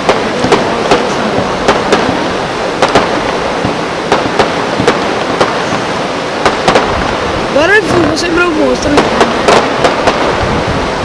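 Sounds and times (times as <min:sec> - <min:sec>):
fireworks cracking: 0:00.0 - 0:11.0
steady rushing noise: 0:00.0 - 0:11.0.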